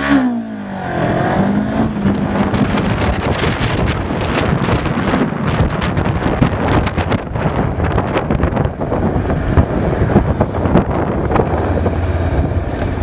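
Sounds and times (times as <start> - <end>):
road rumble: 0.0 - 13.0
wind noise: 0.9 - 13.0.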